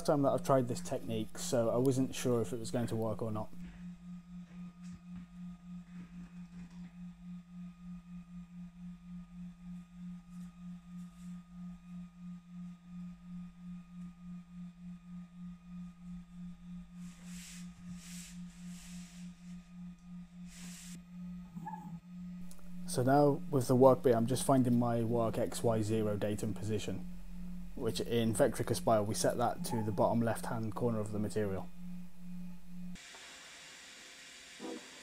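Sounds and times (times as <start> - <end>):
low pulsing hum: 0.0 - 33.0.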